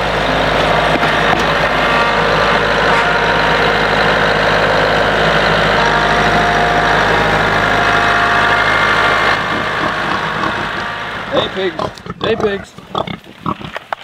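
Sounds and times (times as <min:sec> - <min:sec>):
tractor diesel engine running: 0:00.0 - 0:13.1.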